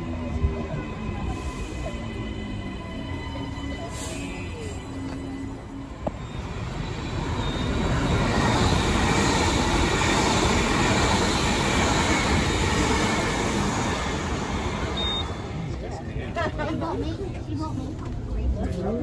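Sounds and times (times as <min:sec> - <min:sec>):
electric train rumble and rail noise: 0:00.0 - 0:19.0.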